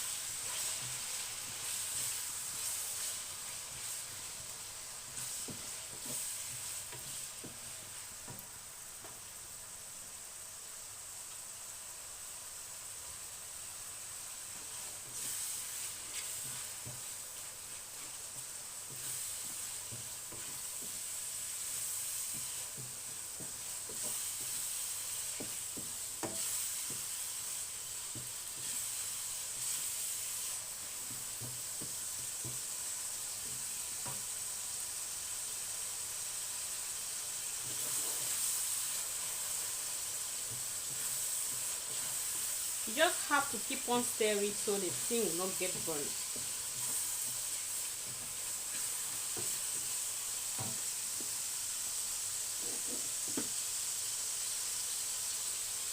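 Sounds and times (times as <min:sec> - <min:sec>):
chicken sizzling in hot oil: 0:00.0 - 0:55.9.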